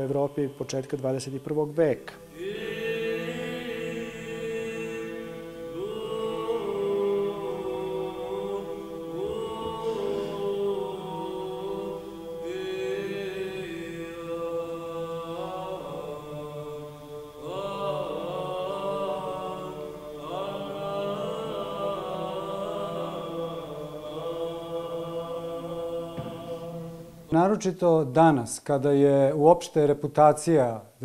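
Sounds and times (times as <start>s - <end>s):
male voices chanting: 0.0s - 27.7s.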